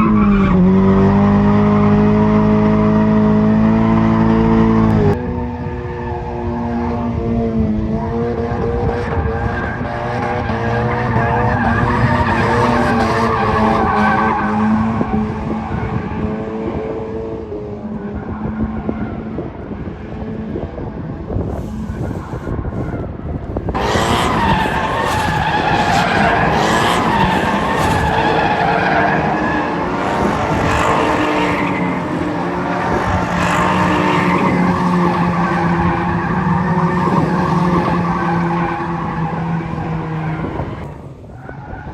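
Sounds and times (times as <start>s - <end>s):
tires skidding and squealing: 0.0s - 7.2s, 7.9s - 41.9s
car engine running hard: 0.0s - 41.9s.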